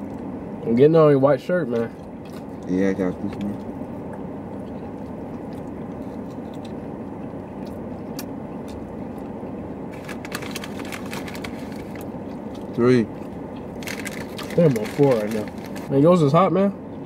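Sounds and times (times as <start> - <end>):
chewing food: 1.8 - 15.9.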